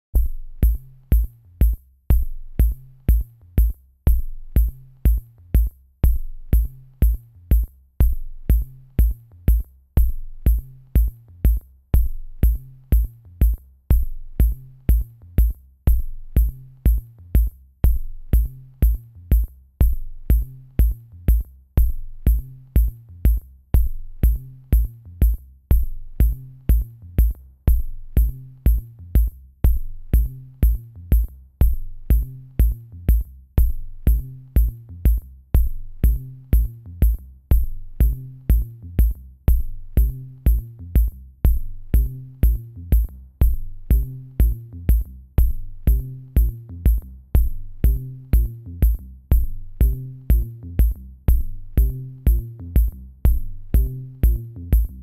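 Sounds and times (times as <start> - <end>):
drum machine beat: 0.1 - 55.0
low bass line: 0.2 - 55.0.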